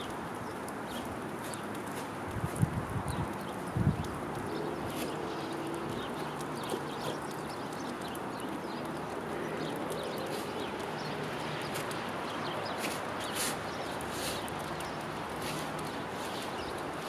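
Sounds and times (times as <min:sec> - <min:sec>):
outdoor background rush: 0:00.0 - 0:17.0
small birds chirping: 0:00.0 - 0:17.0.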